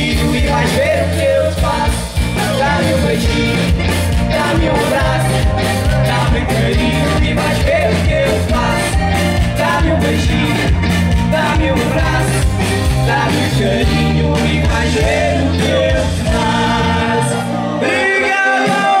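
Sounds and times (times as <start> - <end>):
live band playing dance song: 0.0 - 19.0.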